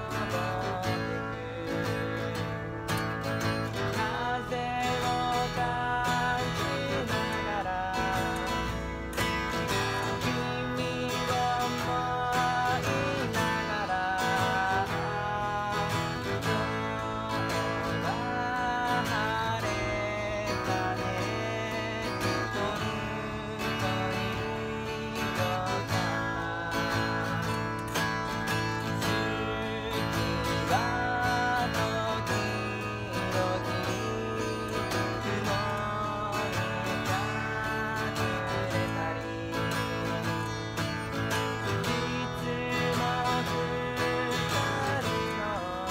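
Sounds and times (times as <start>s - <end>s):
acoustic guitar strumming: 0.0s - 45.9s
man singing: 0.0s - 45.9s.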